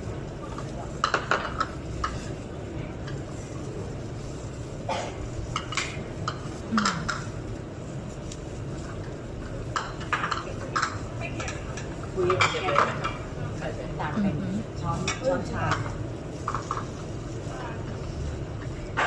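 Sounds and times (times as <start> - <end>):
utensils clinking against bowls: 0.4 - 3.6, 4.9 - 7.4, 8.7 - 19.0.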